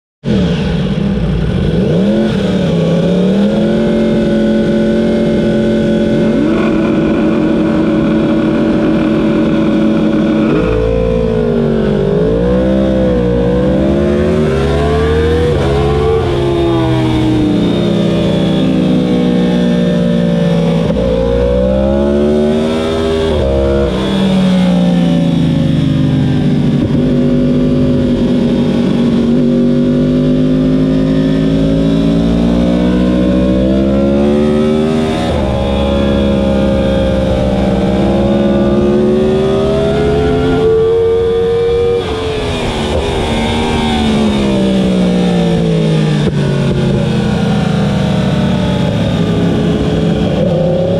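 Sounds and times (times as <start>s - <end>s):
motorcycle engine accelerating: 0.2s - 50.9s.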